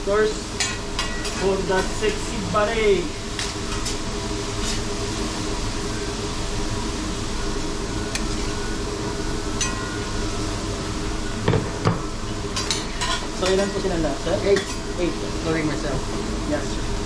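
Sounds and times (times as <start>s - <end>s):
ventilation fan humming: 0.0s - 17.0s.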